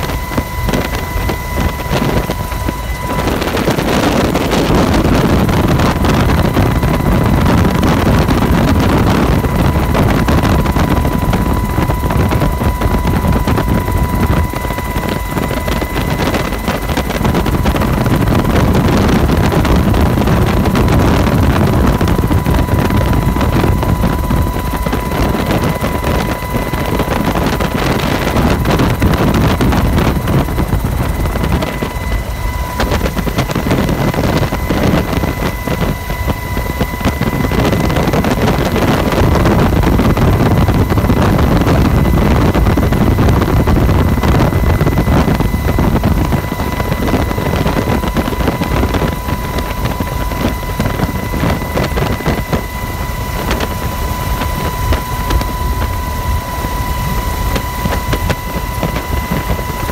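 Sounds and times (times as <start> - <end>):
constant high whine: 0.0 - 59.9
helicopter engine and rotor noise: 0.0 - 59.9.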